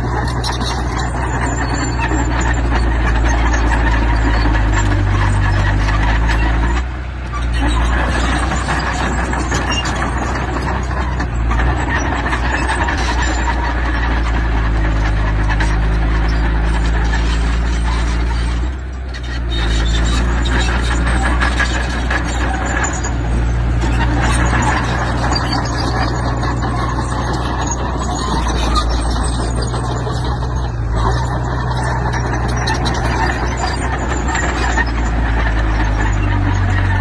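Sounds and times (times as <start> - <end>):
heavy machinery diesel engine: 0.0 - 37.0
rattling clattering noise: 0.0 - 37.0.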